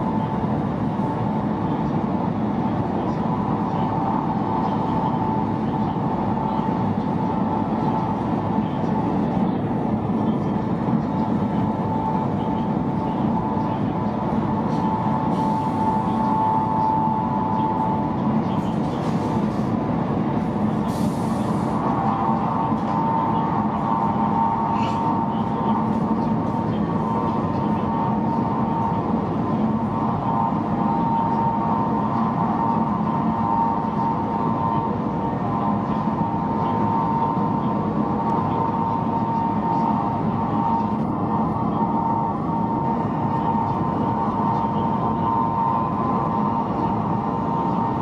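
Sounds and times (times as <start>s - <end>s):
thin steady whine: 0.0s - 48.0s
train cabin rumble and rush: 0.0s - 48.0s.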